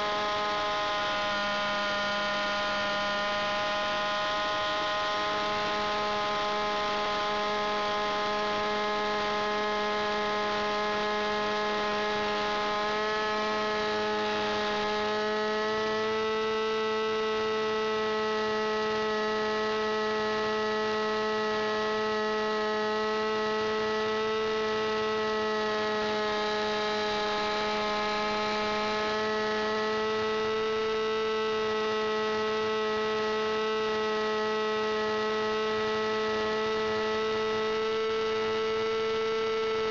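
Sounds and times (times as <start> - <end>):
model plane engine at high revs: 0.0 - 39.9.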